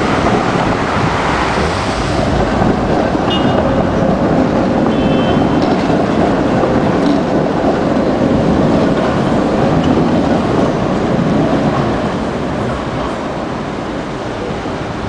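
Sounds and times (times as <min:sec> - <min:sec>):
tram running on rails: 0:00.0 - 0:15.0.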